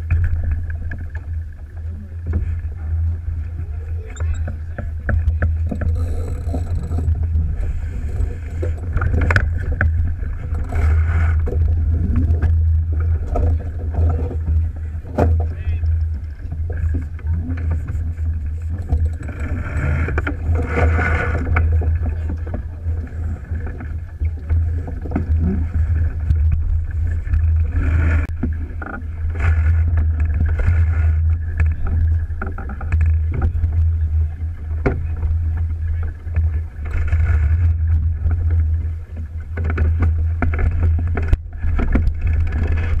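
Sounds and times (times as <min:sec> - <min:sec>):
water splashing along a hull: 0:00.0 - 0:43.0
wind buffeting microphone: 0:00.0 - 0:43.0.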